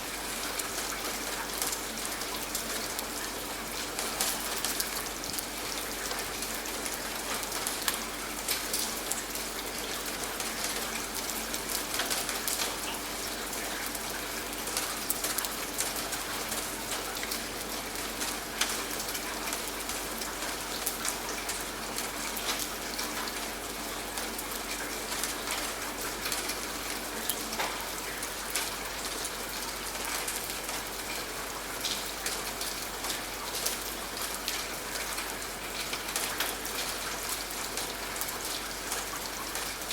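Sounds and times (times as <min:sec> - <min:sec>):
raindrops ticking on a surface: 0:00.0 - 0:39.9
steady rain hiss: 0:00.0 - 0:39.9.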